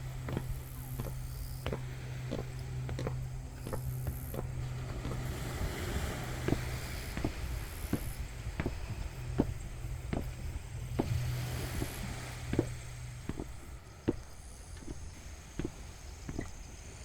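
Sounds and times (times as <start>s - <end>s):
footsteps on beach: 0.0s - 17.0s
steady low hum: 0.0s - 17.0s
waves washing: 0.0s - 17.0s.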